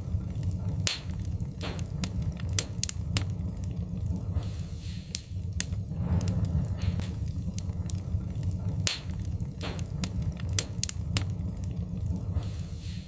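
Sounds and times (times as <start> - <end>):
fire hissing flares: 0.0 - 13.0
wood fire crackling: 0.0 - 13.0.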